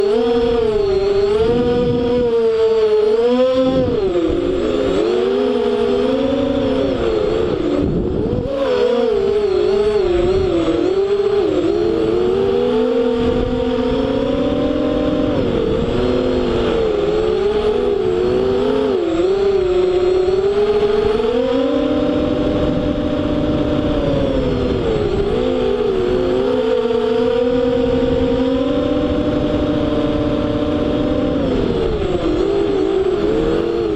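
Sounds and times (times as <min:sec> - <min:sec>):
quadcopter motors whining: 0:00.0 - 0:33.9.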